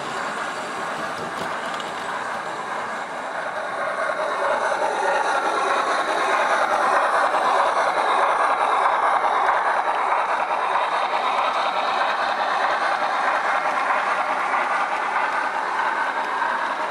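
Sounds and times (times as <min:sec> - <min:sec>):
model train running on track: 0:00.0 - 0:16.9
steam locomotive sounds from speaker: 0:00.0 - 0:16.9.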